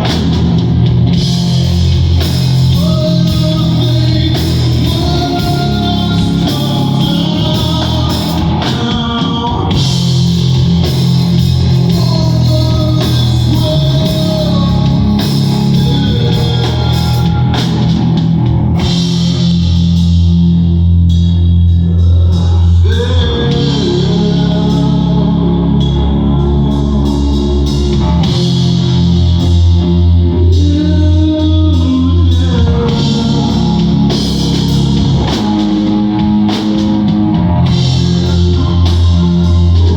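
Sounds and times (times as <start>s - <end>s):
heavy low bass notes: 0.0s - 39.9s
live rock band playing: 0.0s - 39.9s.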